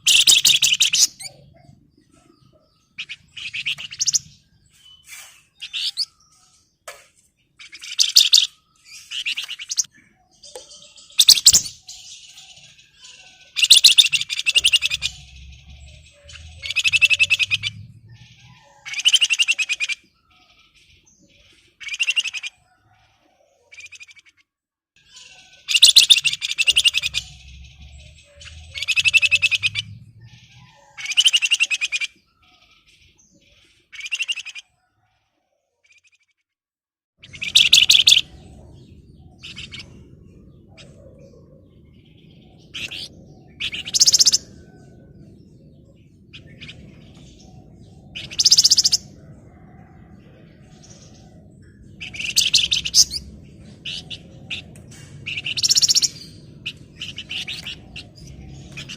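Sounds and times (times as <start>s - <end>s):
bird chattering song: 0.0s - 35.0s, 37.2s - 58.9s.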